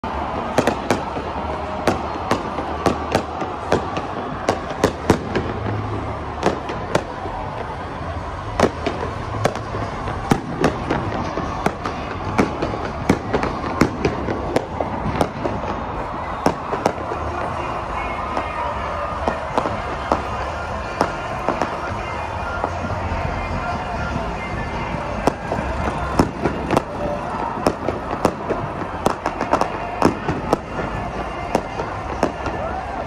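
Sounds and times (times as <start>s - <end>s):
fireworks bangs and cracks: 0.0s - 33.0s
steady background din: 0.0s - 33.0s.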